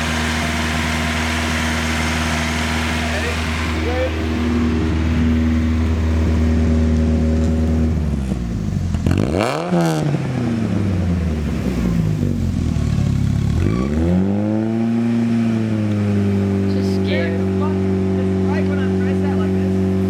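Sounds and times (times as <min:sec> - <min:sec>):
car engine revving and stumbling: 0:00.0 - 0:20.0.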